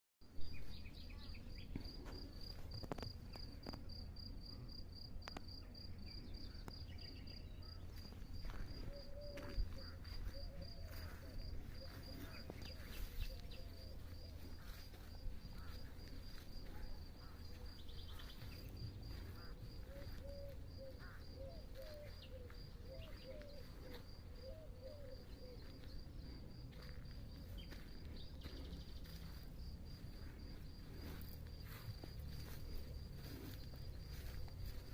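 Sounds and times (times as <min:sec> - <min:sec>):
insect chirping: 0:00.4 - 0:34.9.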